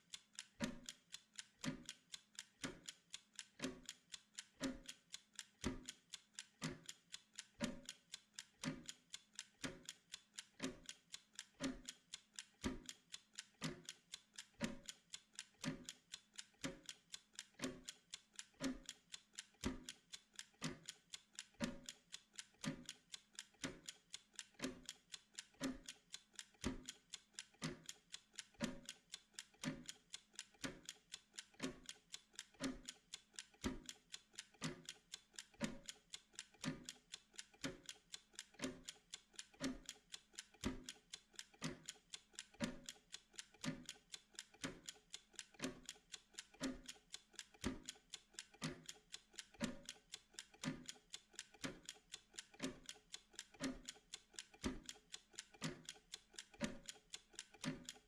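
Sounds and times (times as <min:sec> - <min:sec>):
mechanical timer ticking: 0:00.0 - 0:58.0.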